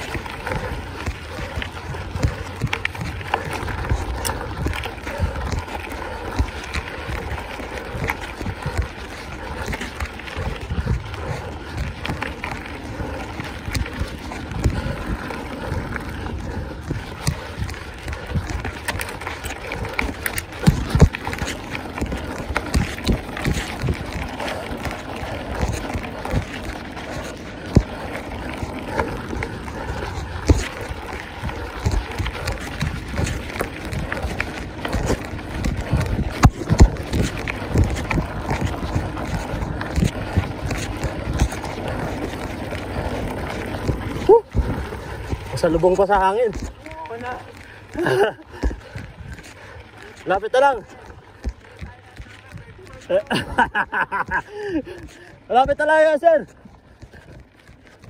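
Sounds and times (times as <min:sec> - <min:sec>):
wind rumbling on microphone: 0:00.0 - 0:50.3
bike clicks and rattles: 0:00.0 - 0:58.0
bike tyre noise: 0:00.0 - 0:58.0.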